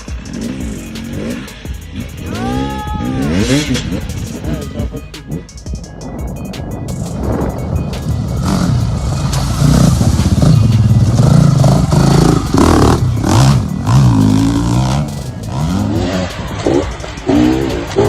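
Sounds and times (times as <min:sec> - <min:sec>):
off-road vehicle engine revving: 0:00.0 - 0:05.6, 0:08.0 - 0:18.0.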